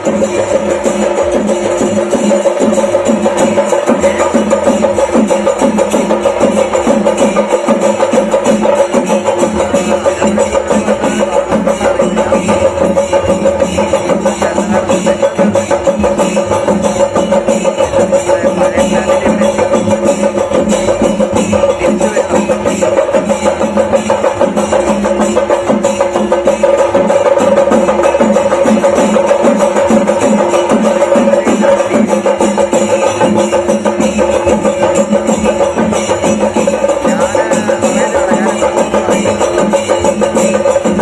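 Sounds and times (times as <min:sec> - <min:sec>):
drums beaten in fast roll: 0:00.0 - 0:41.0.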